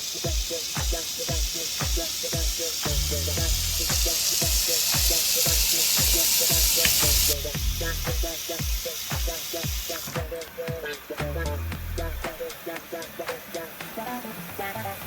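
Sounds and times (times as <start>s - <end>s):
background music with steady beat: 0.0s - 15.0s
water running from a faucet: 0.0s - 15.0s.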